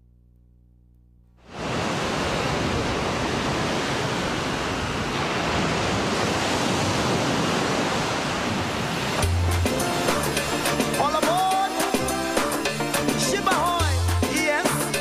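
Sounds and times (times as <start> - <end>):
ocean surf on beach: 1.4 - 15.0.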